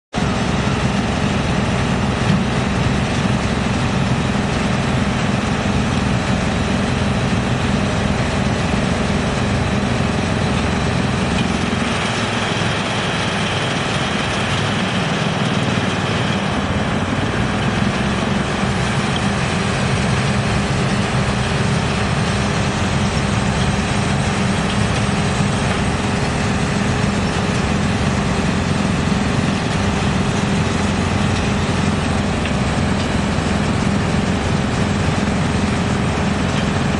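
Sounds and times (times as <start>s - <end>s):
wood chipper running: 0.2s - 36.9s.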